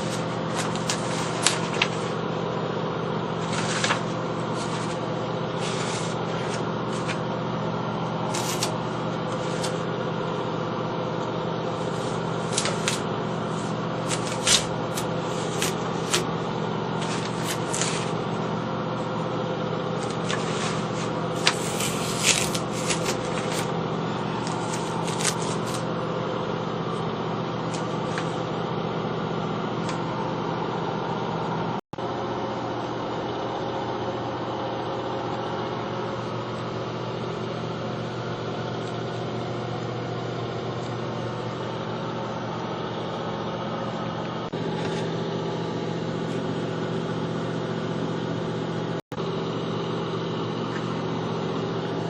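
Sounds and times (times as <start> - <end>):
mechanical motor hum: 0.0 - 52.0.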